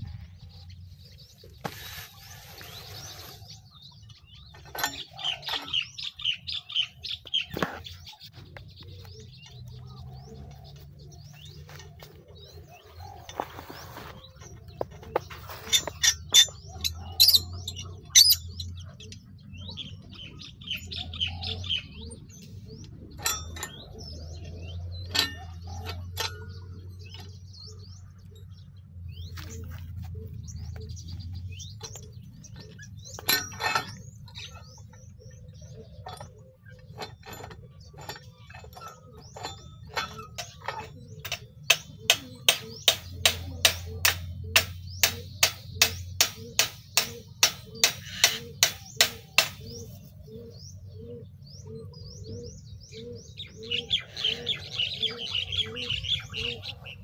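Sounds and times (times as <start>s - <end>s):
birds chirping in trills: 0.0s - 57.0s.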